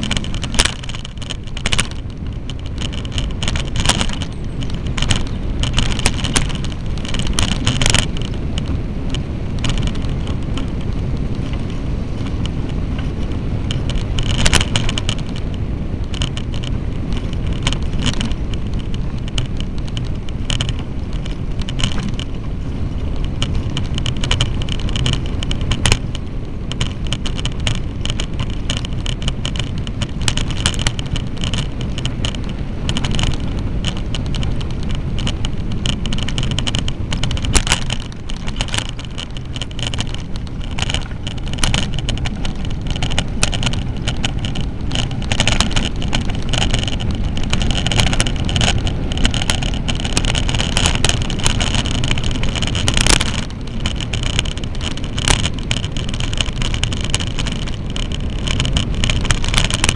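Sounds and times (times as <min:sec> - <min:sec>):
bicycle rumbling on dirt road: 0:00.0 - 0:59.9
bike rattling over bumps: 0:00.0 - 0:59.9.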